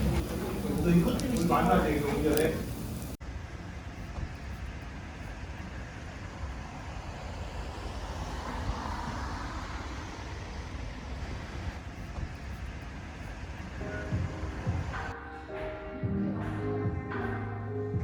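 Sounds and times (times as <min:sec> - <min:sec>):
road noise with low rumble: 0:00.0 - 0:15.2.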